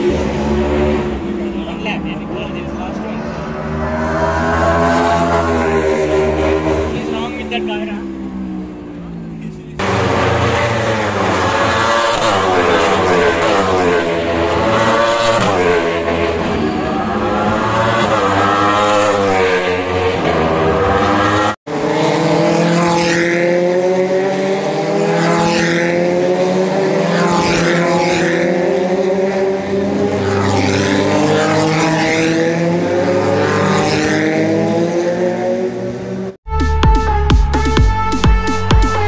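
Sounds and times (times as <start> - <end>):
race car engines at high revs: 0.0 - 36.4.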